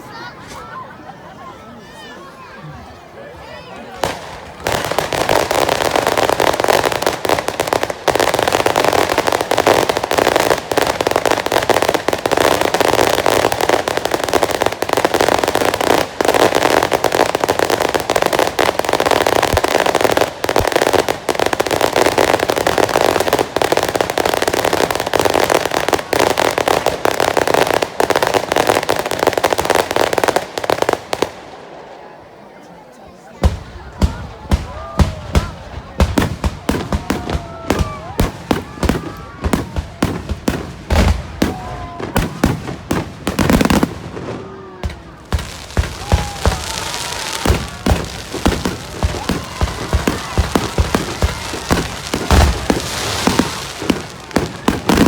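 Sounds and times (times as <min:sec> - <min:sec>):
fireworks crackling and popping: 0:03.8 - 0:31.7, 0:33.4 - 0:55.0.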